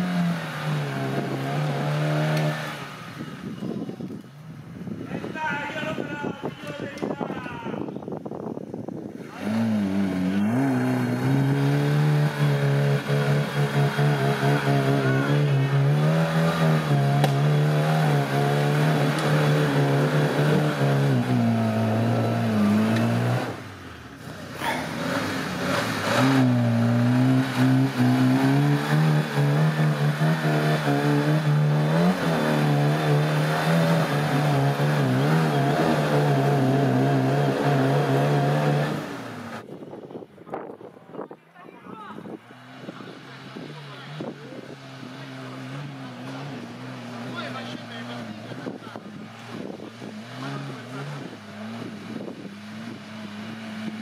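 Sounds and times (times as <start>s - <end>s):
off-road engine revving: 0.0s - 7.3s, 9.0s - 39.8s, 42.1s - 54.0s.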